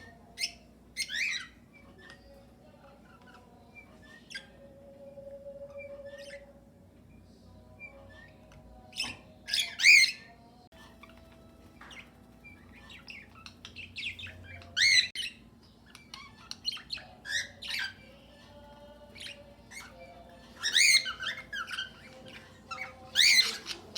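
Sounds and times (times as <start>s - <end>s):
parrots squawking: 0.0s - 6.6s, 7.8s - 23.9s
birds chirping: 0.0s - 23.9s.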